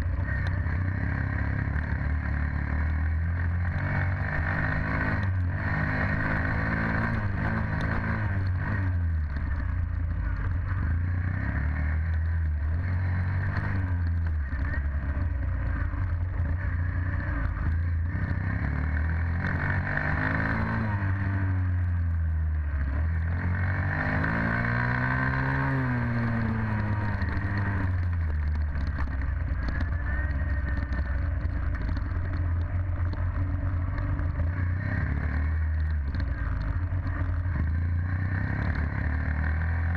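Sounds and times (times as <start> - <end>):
dirt bike engine revving: 0.0 - 21.9, 22.8 - 39.9.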